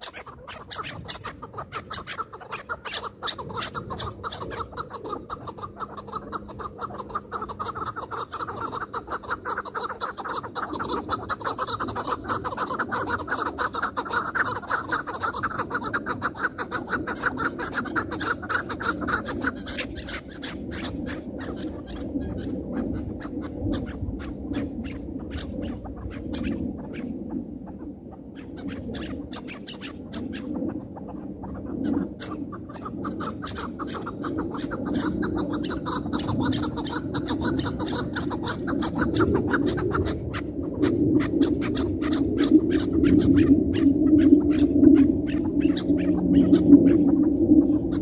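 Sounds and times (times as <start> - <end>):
partridges calling: 0.0 - 48.0.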